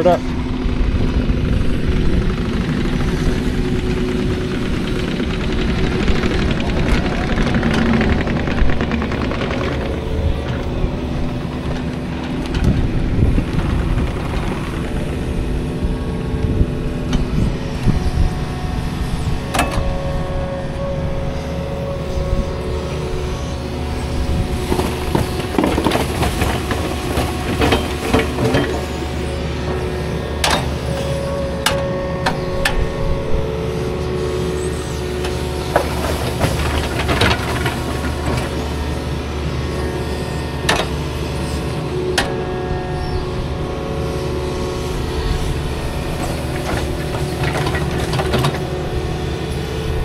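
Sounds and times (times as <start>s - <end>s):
heavy machine engine running: 0.0s - 50.0s.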